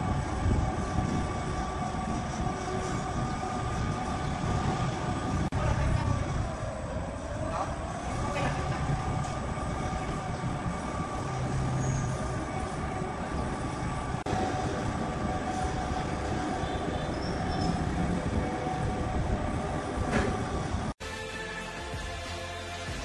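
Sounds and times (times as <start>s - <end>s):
sawmill machinery rumble and whine: 0.0s - 23.0s.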